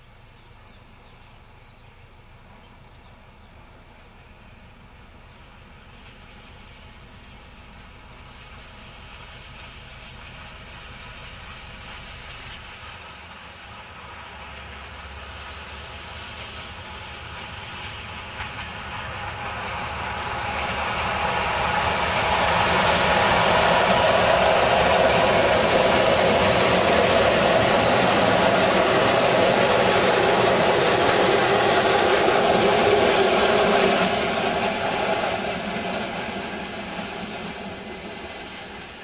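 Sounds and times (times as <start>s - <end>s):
diesel locomotive engine: 0.0s - 39.0s
train rolling past: 0.0s - 39.0s.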